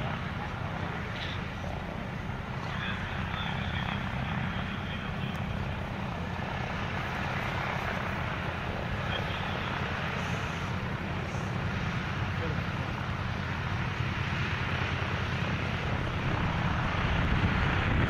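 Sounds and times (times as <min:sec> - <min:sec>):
propeller aircraft droning: 0:00.0 - 0:18.0.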